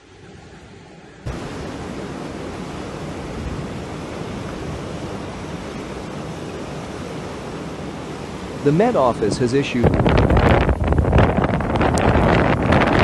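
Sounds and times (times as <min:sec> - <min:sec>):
water rushing down spillway shaft: 0:00.0 - 0:13.0.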